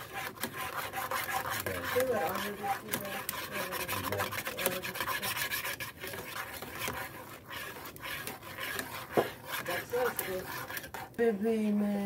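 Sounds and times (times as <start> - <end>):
spoon scraping a pan: 0.0 - 11.7.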